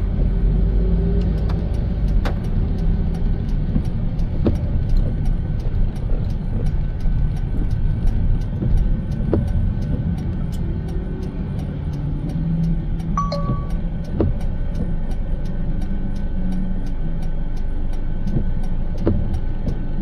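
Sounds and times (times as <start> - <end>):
car driving on wet road: 0.0 - 20.0
sharp ticks: 0.1 - 20.0.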